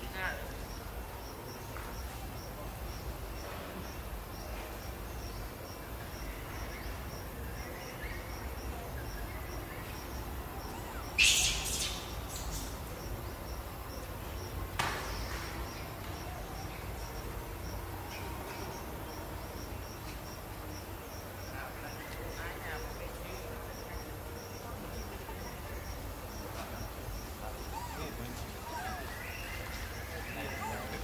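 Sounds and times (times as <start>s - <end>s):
high insect-like chirp: 0.0s - 31.0s.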